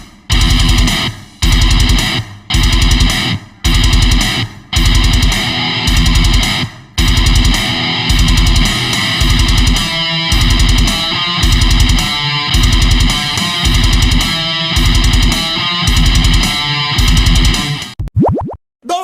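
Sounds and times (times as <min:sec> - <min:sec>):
distorted guitar and bass riffs: 0:00.0 - 0:18.0
low hits: 0:00.3 - 0:17.8.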